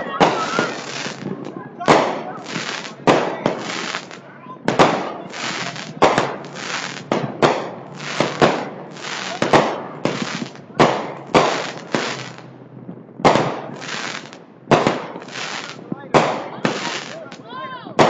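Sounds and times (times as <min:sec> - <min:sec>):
fireworks crackling hiss: 0:00.0 - 0:12.5, 0:13.4 - 0:17.4
fireworks bangs: 0:00.0 - 0:18.0.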